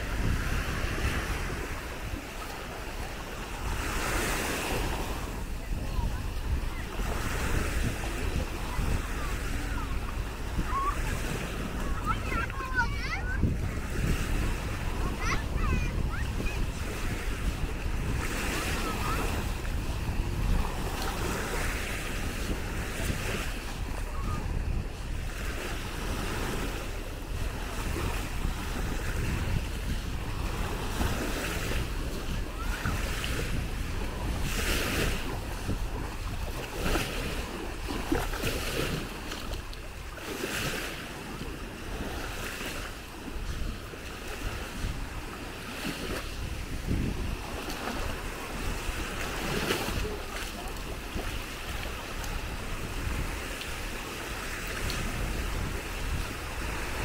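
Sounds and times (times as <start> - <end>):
small waves lapping on sand: 0.0 - 57.0
wind rumbling on microphone: 0.0 - 57.0.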